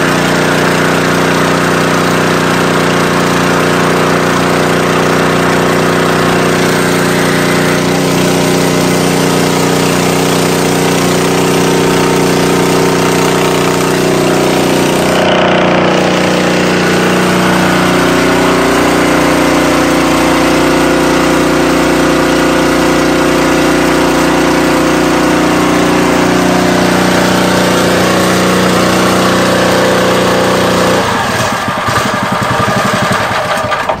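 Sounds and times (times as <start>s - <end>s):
small petrol engine running: 0.0s - 34.0s.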